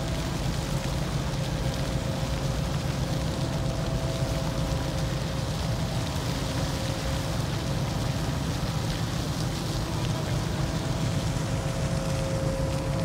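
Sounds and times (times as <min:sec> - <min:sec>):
faint constant hum: 0:00.0 - 0:13.0
ship machinery rumble: 0:00.0 - 0:13.0.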